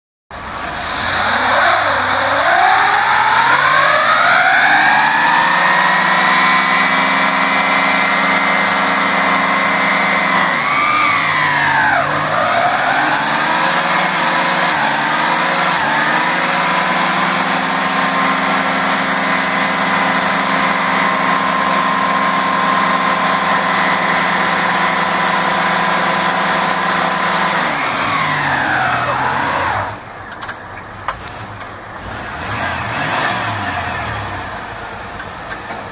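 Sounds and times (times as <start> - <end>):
car engine revving: 0.3 - 35.9
tires spinning: 0.3 - 35.9.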